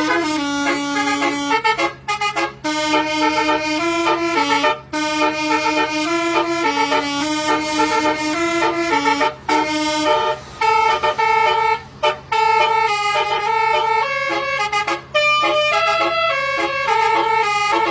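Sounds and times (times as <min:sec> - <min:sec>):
multi-tone horn playing a tune: 0:00.0 - 0:17.9.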